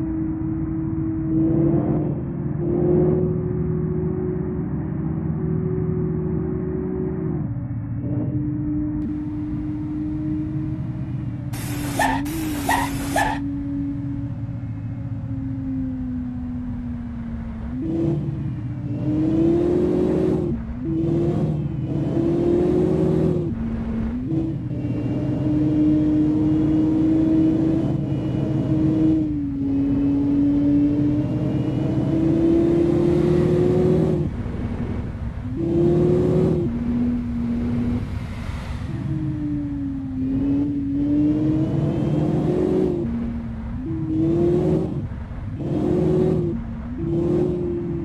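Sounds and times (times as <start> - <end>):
truck engine labouring and revving: 0.0 - 48.0.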